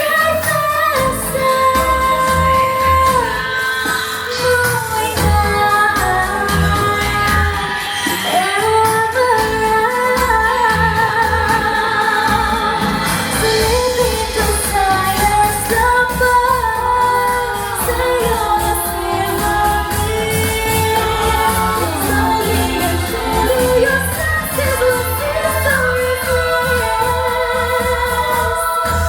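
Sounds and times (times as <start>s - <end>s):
person singing over a beat: 0.0s - 29.0s.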